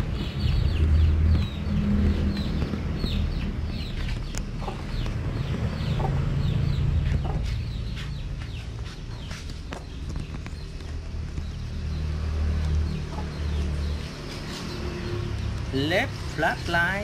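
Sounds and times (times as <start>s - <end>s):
steady low rumble: 0.0s - 14.2s
birds chirping: 0.0s - 17.0s.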